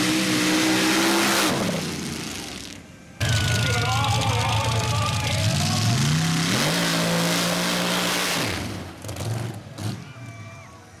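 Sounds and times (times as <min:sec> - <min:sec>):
truck engine at full throttle: 0:00.0 - 0:10.0.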